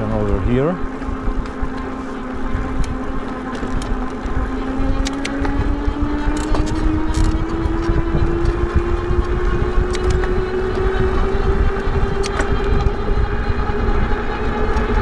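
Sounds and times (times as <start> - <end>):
electric motor whining: 0.0 - 15.0
wind rumble on microphone: 0.0 - 15.0.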